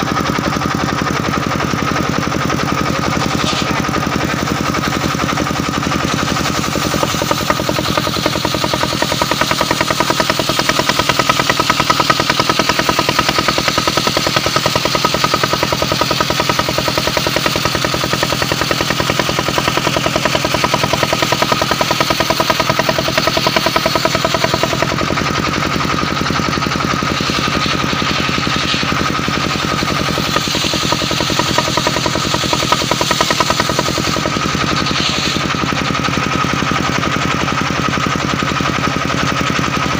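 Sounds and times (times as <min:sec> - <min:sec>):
saw blade whine: 0:00.0 - 0:39.9
sawmill engine running: 0:00.0 - 0:39.9.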